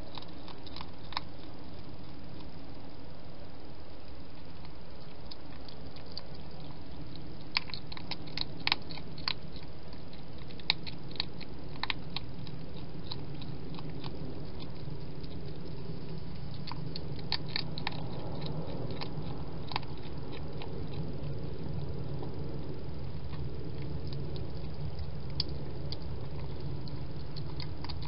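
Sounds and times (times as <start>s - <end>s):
hedgehog chewing crunches: 0.0s - 28.0s
steady low hum: 0.0s - 28.0s.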